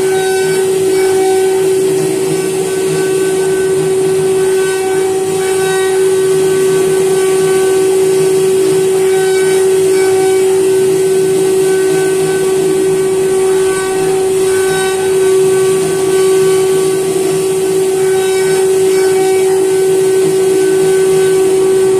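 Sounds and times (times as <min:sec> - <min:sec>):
router spindle whine: 0:00.0 - 0:21.9.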